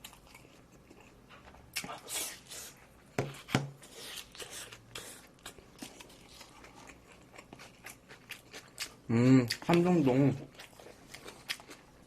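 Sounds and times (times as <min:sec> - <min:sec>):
crunchy chewing of food: 0:00.0 - 0:12.0.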